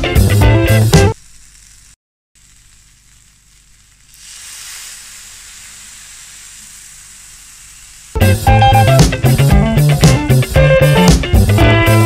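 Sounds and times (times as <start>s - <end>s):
patties sizzling on grill pan: 0.2s - 11.2s.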